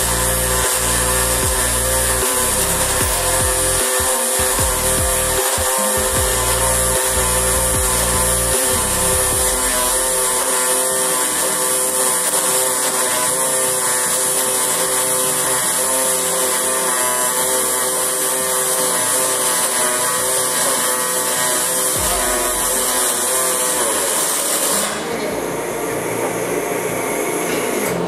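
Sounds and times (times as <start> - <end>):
welding arc buzzing: 0.0 - 28.0.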